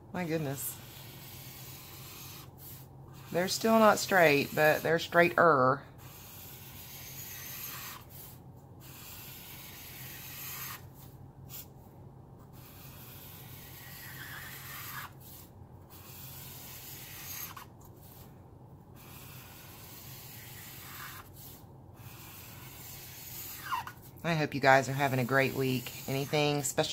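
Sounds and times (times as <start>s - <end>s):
marker tip rubbing on paper: 0.7s - 5.3s, 6.0s - 10.9s, 12.6s - 18.2s, 19.0s - 26.7s.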